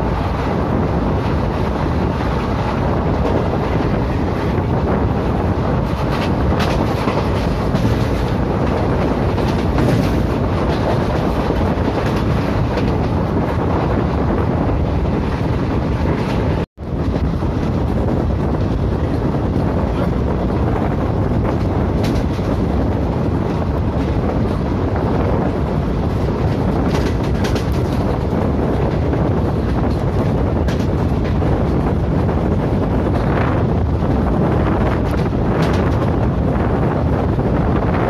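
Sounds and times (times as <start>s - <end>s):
train wheels on rail: 0.0s - 38.0s
wind buffeting microphone: 0.0s - 38.0s.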